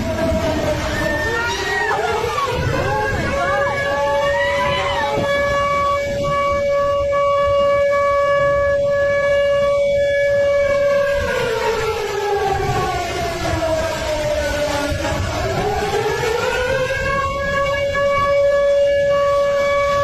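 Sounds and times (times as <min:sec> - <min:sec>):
warning siren: 0:00.0 - 0:20.0.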